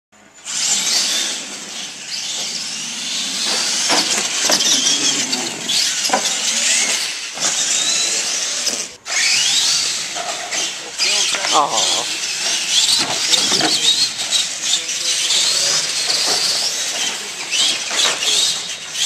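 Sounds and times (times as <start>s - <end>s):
toy truck motor whine: 0.3s - 19.0s.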